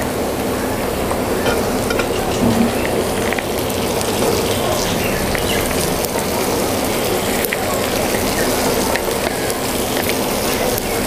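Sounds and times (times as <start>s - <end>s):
greens sizzling in hot oil: 0.9s - 11.0s.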